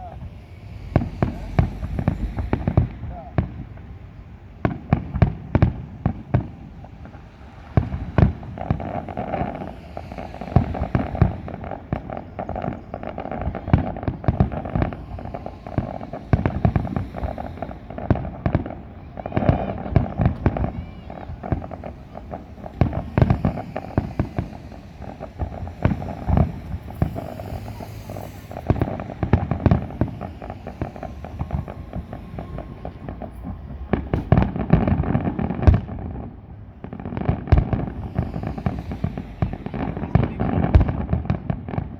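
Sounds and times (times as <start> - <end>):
fireworks banging: 0.0 - 41.9.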